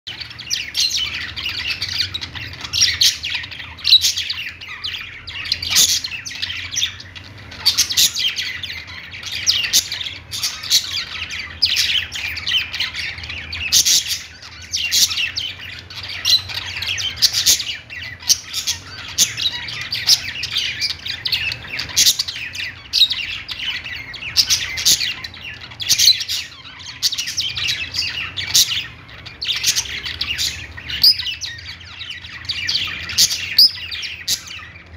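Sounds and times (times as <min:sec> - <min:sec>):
budgerigars chirping: 0:00.1 - 0:34.9
parakeet squawks: 0:00.1 - 0:34.9.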